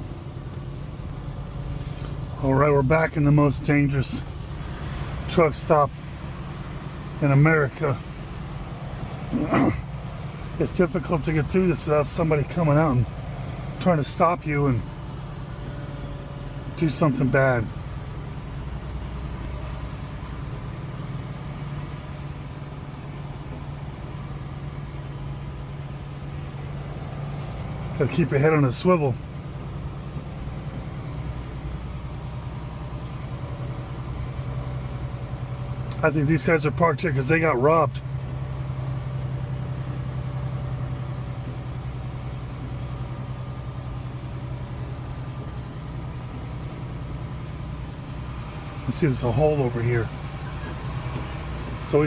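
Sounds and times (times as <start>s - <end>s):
diesel truck engine humming: 0.0s - 52.0s.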